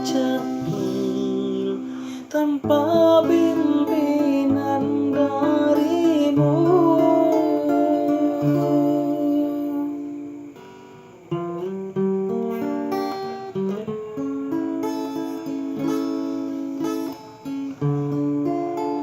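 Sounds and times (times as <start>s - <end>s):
plucked string instrument melody: 0.0s - 9.9s, 11.4s - 19.0s.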